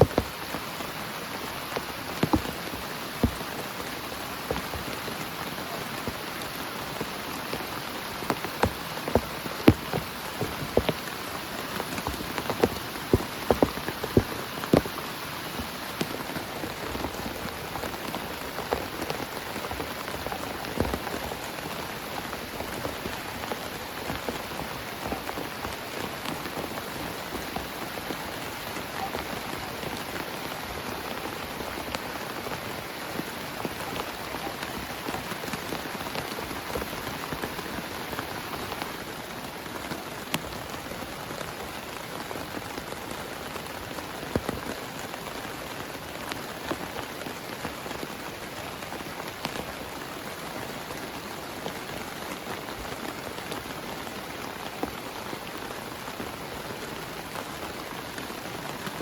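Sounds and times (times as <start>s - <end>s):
heavy rain on a tent: 0.0s - 59.0s.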